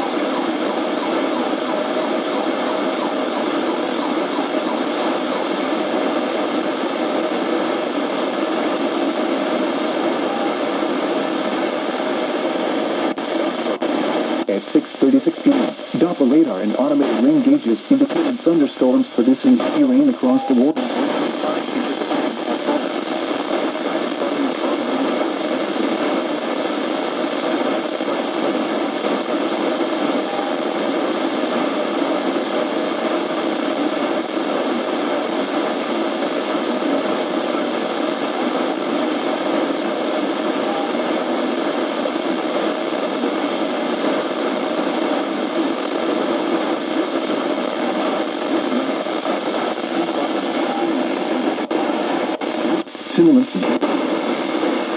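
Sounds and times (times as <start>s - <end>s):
radio static hiss: 0.0s - 54.9s.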